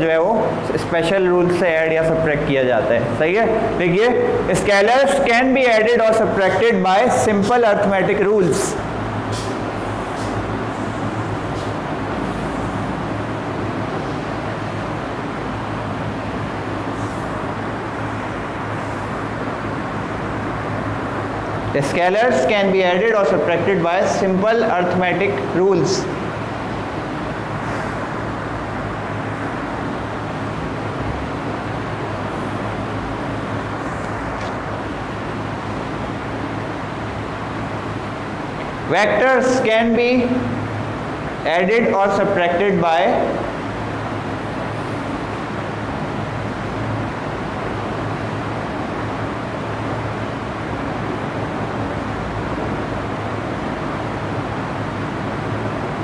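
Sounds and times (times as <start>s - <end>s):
low even hum: 0.0s - 56.0s.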